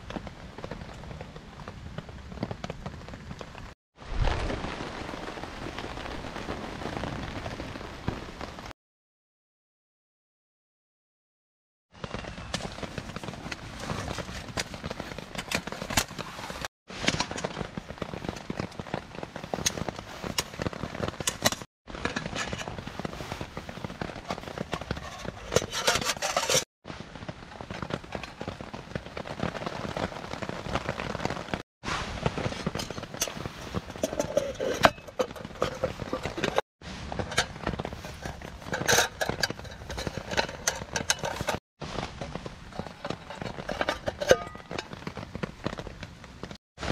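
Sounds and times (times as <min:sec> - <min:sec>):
rain pattering on a tarp: 0:00.0 - 0:08.7, 0:11.9 - 0:34.0, 0:35.3 - 0:46.9.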